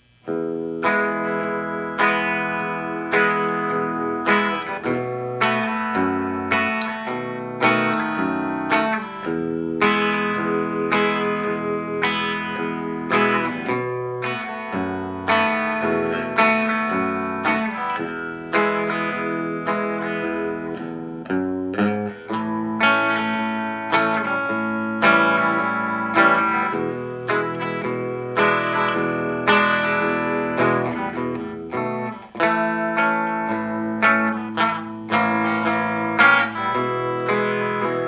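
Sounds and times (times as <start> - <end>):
electric guitar chords ringing: 0.0 - 38.0.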